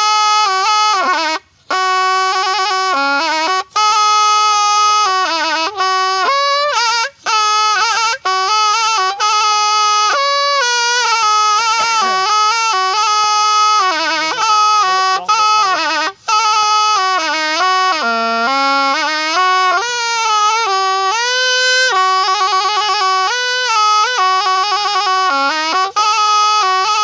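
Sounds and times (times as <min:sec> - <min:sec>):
reed oboe solo melody: 0:00.0 - 0:27.0.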